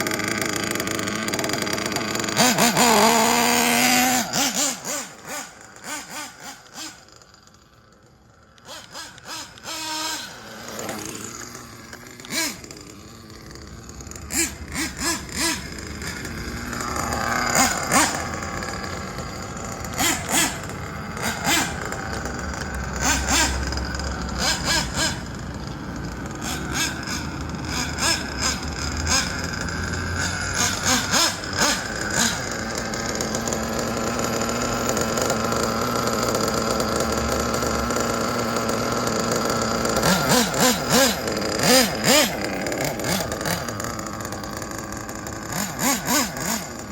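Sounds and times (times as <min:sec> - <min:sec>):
small engine revving: 0:00.0 - 0:46.9.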